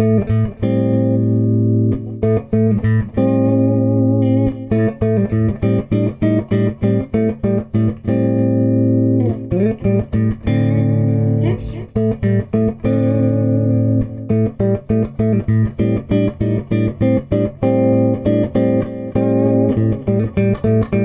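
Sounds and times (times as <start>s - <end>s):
guitar plucked and strummed: 0.0s - 21.0s.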